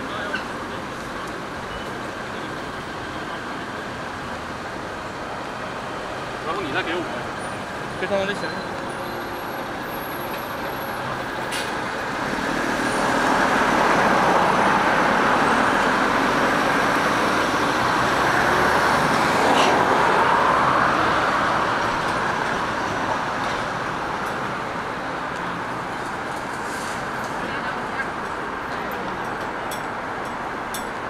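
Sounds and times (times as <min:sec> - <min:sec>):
passing vehicles: 0:00.0 - 0:31.0.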